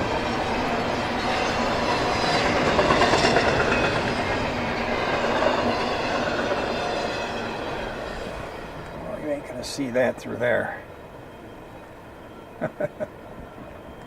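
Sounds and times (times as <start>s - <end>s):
wheels clacking over rail joints: 0.0s - 12.0s
freight train cars rolling past: 0.0s - 14.0s.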